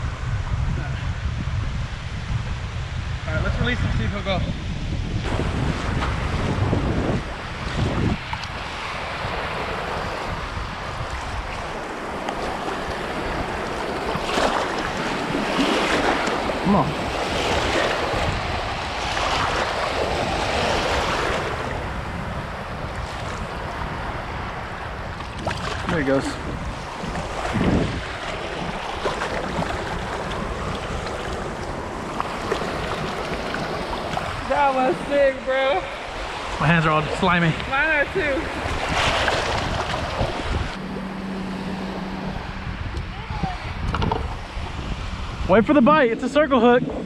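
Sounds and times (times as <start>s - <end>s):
wind blowing across microphone: 0.0s - 47.0s
water lapping around boat: 5.2s - 45.5s.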